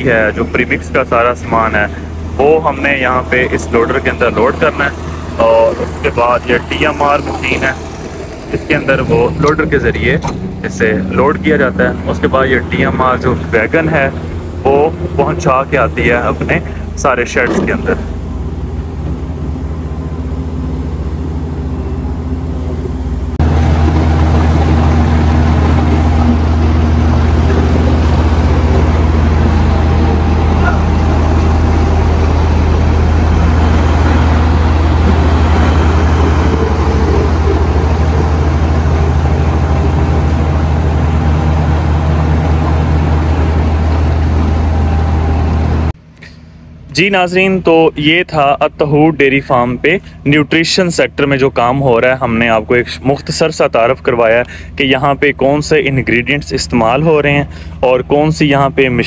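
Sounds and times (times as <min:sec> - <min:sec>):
heavy diesel engines humming: 0:00.0 - 0:59.0.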